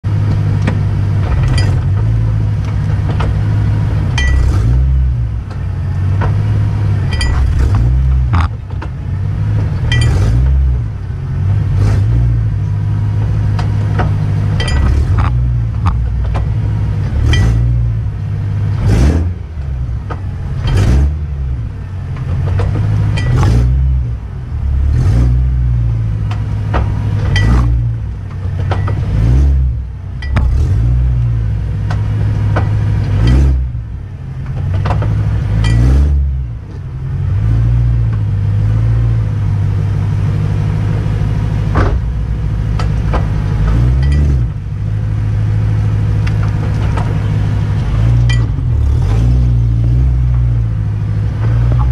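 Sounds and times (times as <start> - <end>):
car engine revving at low speed: 0.0 - 51.9
driveshaft clunks: 0.1 - 36.9, 40.7 - 51.9.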